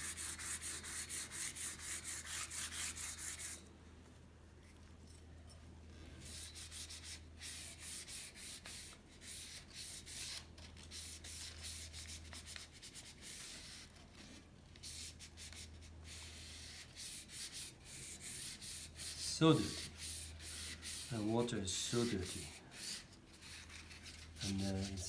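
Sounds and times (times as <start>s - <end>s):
sandpaper rasping on metal tubing: 0.0s - 3.6s, 6.2s - 14.0s, 14.8s - 25.0s.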